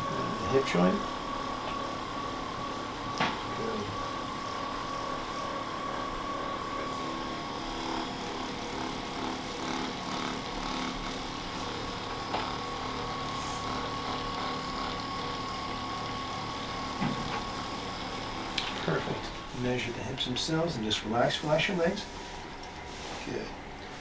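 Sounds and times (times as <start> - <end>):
electric massager humming: 0.0 - 24.0.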